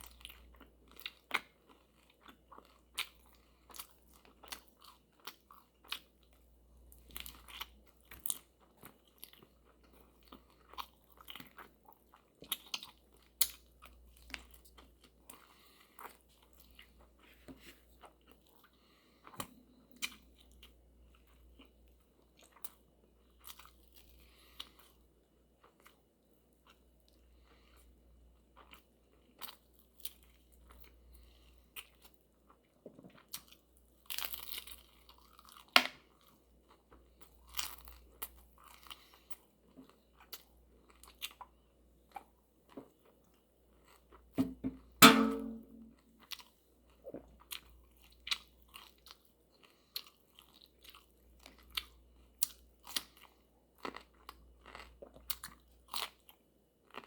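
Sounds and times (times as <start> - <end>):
crunching and chewing fried food: 0.0 - 45.0, 45.8 - 57.0.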